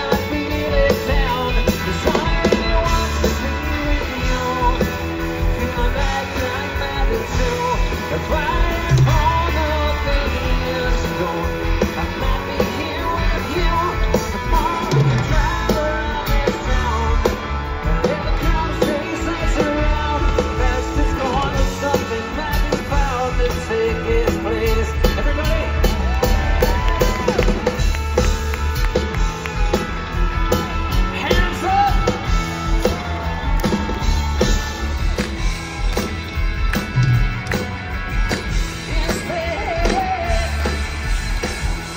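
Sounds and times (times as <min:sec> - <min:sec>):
man singing lead vocals: 0:00.0 - 0:27.9, 0:30.2 - 0:35.9, 0:36.9 - 0:41.9
drum beat: 0:00.0 - 0:41.9
electric guitars: 0:00.0 - 0:41.9
live rock band playing: 0:00.0 - 0:41.9.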